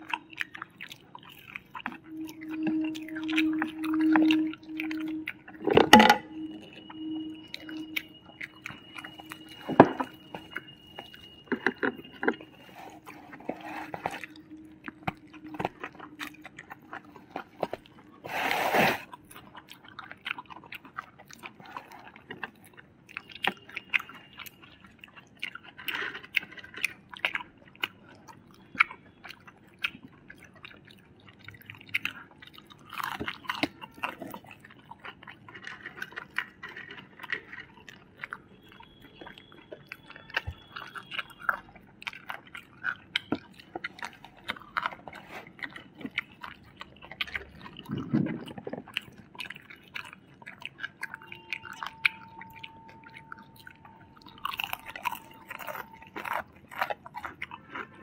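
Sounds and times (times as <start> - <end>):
chewing crunchy food: 0.0 - 58.0.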